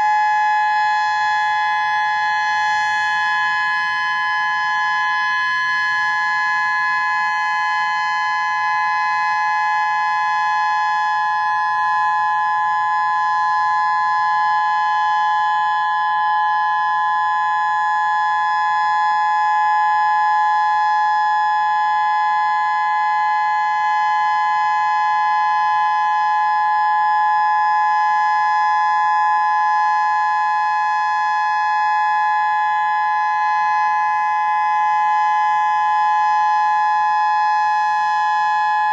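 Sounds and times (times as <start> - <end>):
electronic siren steady tone: 0.0 - 38.9.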